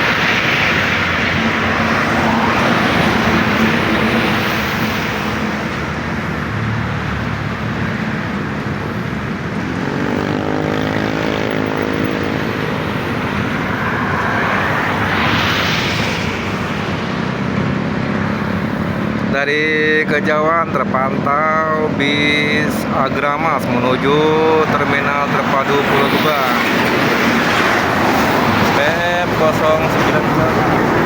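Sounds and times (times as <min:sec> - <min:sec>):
heavy road traffic: 0:00.0 - 0:31.0
vehicle engine hum rising: 0:00.0 - 0:31.0.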